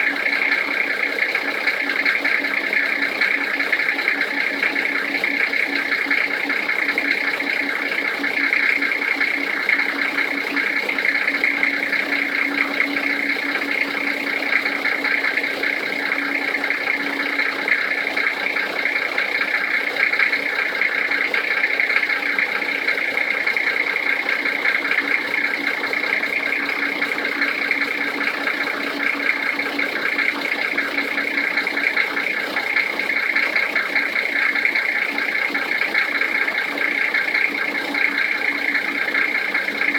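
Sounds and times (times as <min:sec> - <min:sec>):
diesel engine idling with knock: 0:00.0 - 0:39.9.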